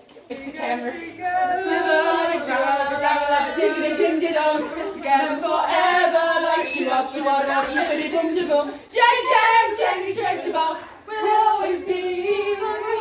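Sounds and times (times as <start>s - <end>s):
people singing together: 0.3s - 13.0s.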